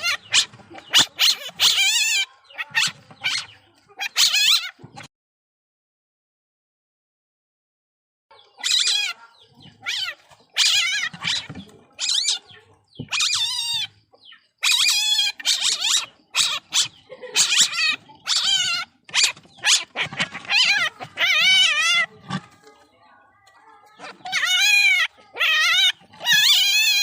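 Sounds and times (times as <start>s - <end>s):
baby civet squealing: 0.0s - 5.0s, 8.5s - 14.0s, 14.6s - 22.6s, 23.9s - 27.0s.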